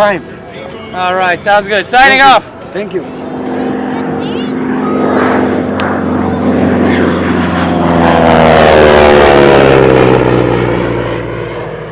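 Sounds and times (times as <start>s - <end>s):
propeller airplane flying past: 0.0s - 11.9s.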